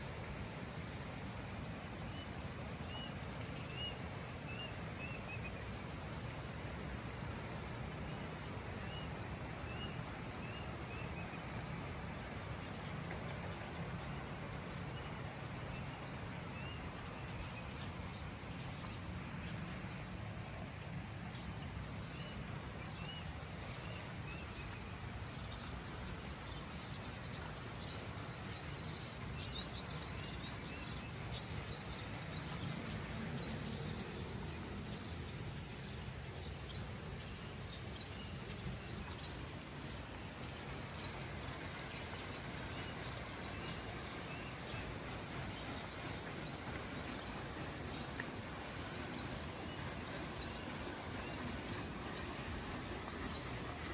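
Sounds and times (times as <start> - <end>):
steady low background noise: 0.0 - 53.9.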